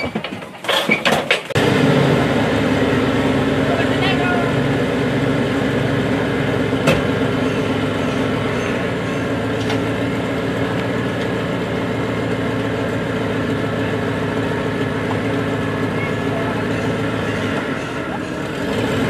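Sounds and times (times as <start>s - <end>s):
truck engine idling: 1.4s - 19.0s.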